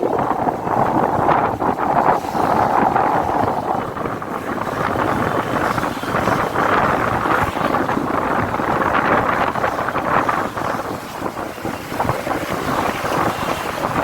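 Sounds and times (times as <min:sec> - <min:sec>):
road vehicles running: 0:00.0 - 0:14.0
wind buffeting microphone: 0:00.0 - 0:14.0.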